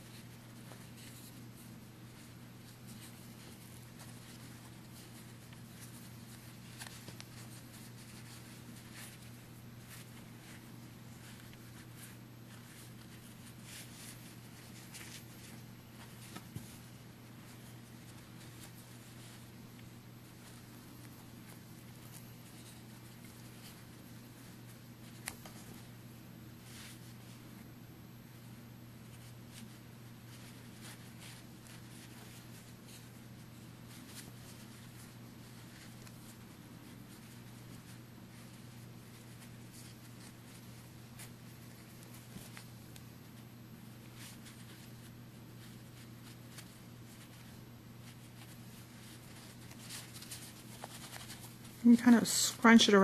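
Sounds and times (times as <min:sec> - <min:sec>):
fabric rustling and scratching: 0:00.0 - 0:27.7, 0:28.9 - 0:52.3
steady low hum: 0:00.0 - 0:53.0.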